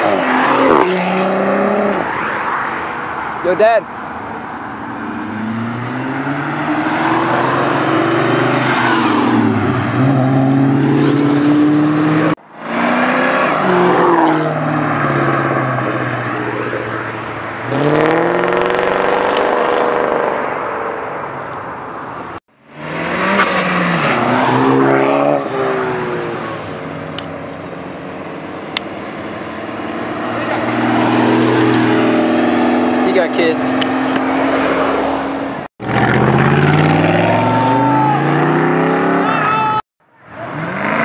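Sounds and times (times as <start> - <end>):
car engines accelerating hard: 0.0 - 21.1, 22.6 - 41.0.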